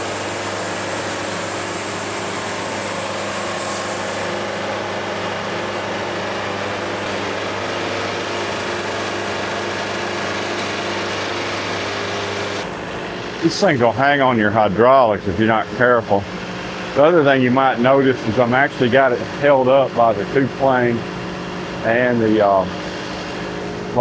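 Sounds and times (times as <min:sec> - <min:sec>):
sawmill engine humming: 0:00.0 - 0:24.0.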